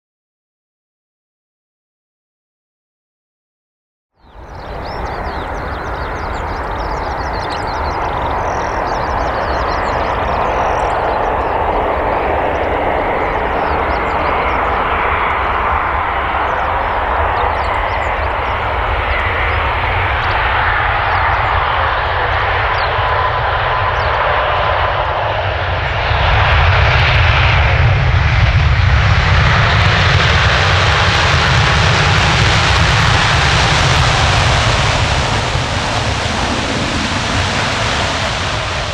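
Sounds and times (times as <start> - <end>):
jet engine whine: 4.2 - 38.9.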